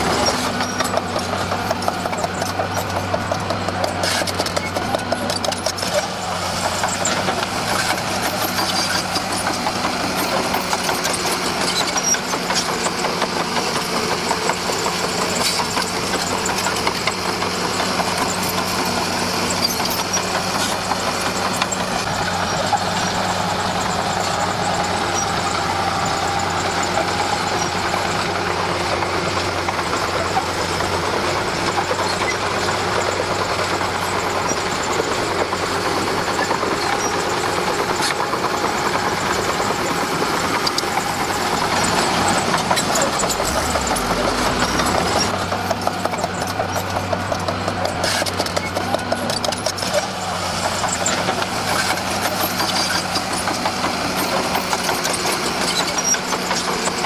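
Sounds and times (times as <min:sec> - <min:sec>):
constant rattle: 0:00.0 - 0:57.0
diesel engine running: 0:00.0 - 0:57.0.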